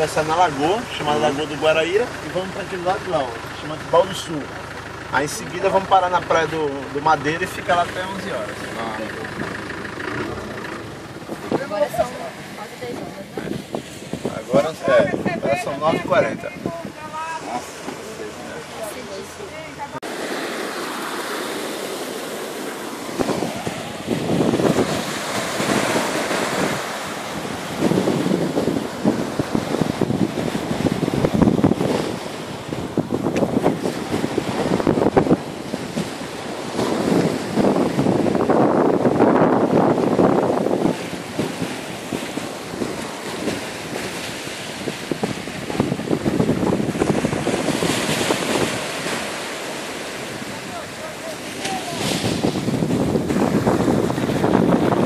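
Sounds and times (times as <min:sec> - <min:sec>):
small waves washing on sand: 0:00.0 - 0:55.0
wind buffeting the microphone: 0:07.6 - 0:18.8, 0:21.5 - 0:55.0.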